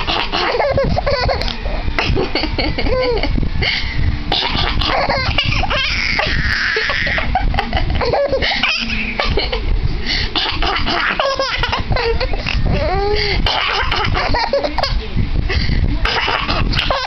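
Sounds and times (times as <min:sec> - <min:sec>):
baby laughing hysterically: 0:00.0 - 0:03.4, 0:04.3 - 0:09.7, 0:10.3 - 0:15.1, 0:16.0 - 0:17.0.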